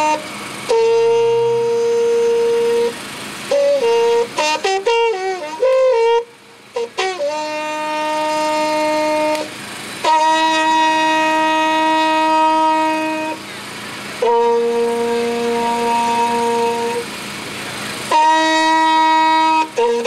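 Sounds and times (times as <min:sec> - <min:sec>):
wooden horns sustained notes: 0:00.0 - 0:20.0.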